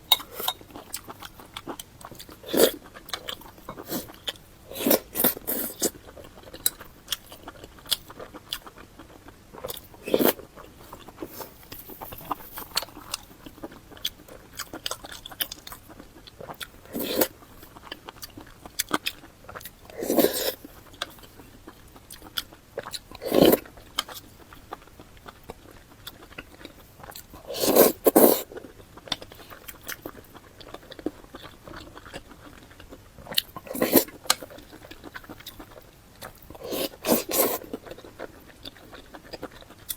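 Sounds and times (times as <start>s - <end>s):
person chewing with mouth clicks: 0.0s - 39.9s.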